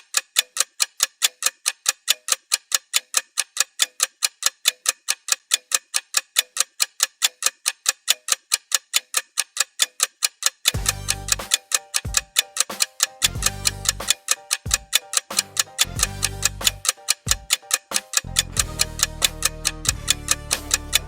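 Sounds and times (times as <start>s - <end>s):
clock timer ticking: 0.0s - 21.0s.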